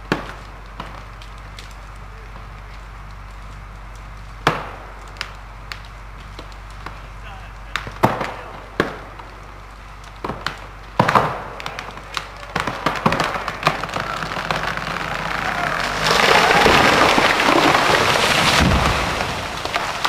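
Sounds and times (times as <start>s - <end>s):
branches breaking crash: 0.0s - 20.0s
tree cracking and snapping: 0.0s - 20.0s.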